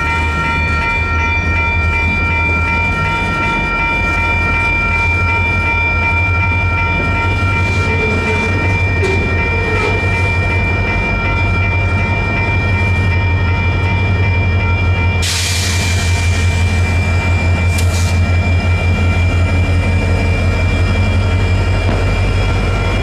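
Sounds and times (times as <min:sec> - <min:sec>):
crossing bells ringing: 0:00.0 - 0:23.0
freight train rumbling: 0:00.0 - 0:23.0.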